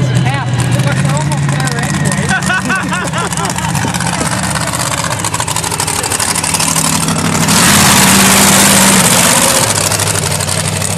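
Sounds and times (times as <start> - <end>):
truck engine revving: 0.0 - 10.9
truck rushing past: 0.0 - 10.9.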